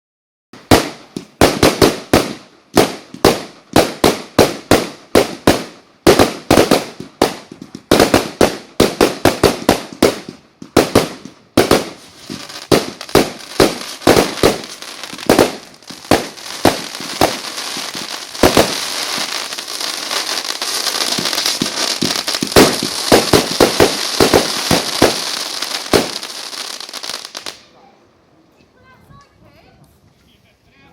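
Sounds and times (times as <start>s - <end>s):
fireworks crackling: 0.6s - 27.7s
fireworks bangs: 0.6s - 27.8s.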